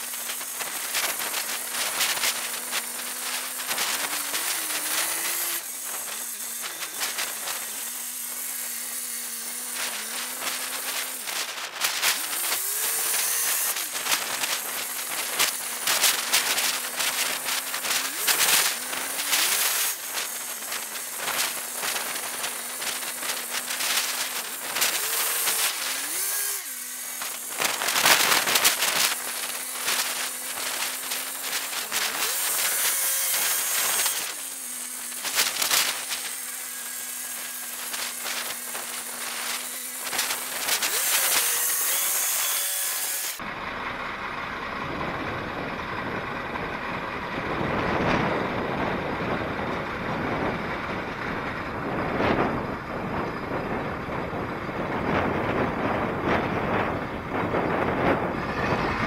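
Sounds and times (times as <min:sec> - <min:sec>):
gravel crunching: 0:00.0 - 0:59.0.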